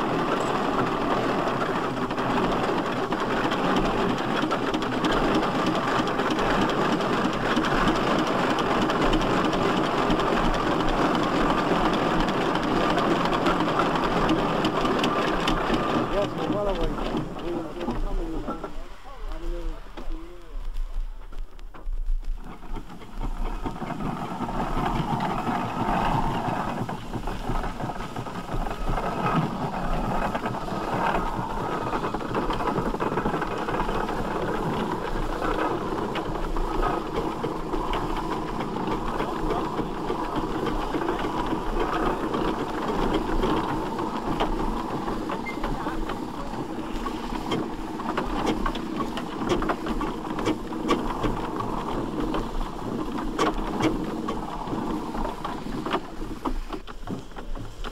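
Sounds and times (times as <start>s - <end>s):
exhaust beats and mechanical knocks: 0.0s - 57.9s
steam traction engine: 0.0s - 57.9s.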